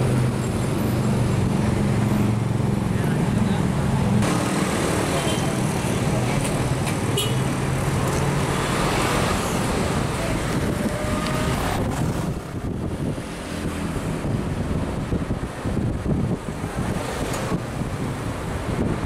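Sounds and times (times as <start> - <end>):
passing cars and vans: 0.0 - 19.0
road and wind noise inside car: 0.0 - 19.0.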